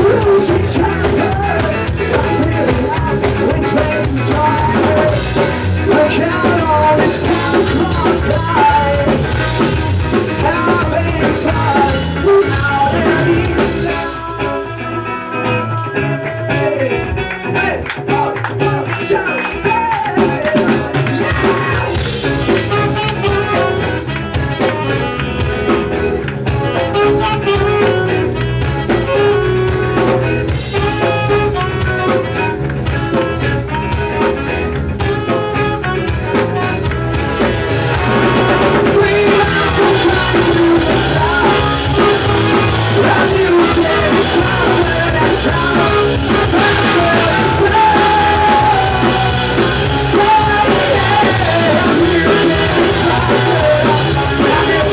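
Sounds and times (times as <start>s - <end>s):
ska-punk band playing live: 0.0s - 54.9s.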